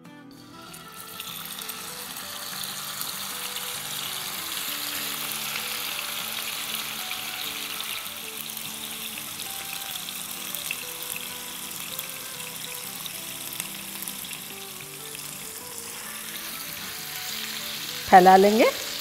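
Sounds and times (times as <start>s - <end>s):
chicken sizzling in hot oil: 0.3s - 19.0s.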